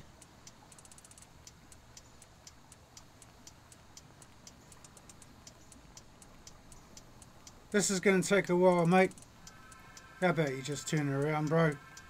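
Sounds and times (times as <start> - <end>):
faint high-pitched ticks: 0.0 - 12.0.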